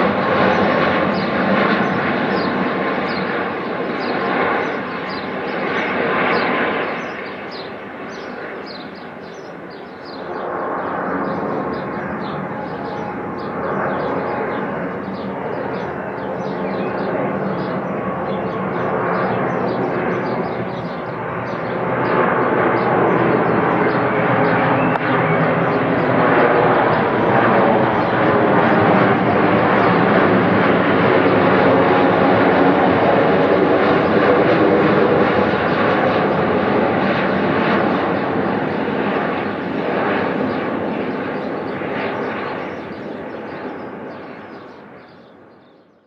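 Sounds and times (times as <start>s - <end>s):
jet engine roar: 0.0s - 45.6s.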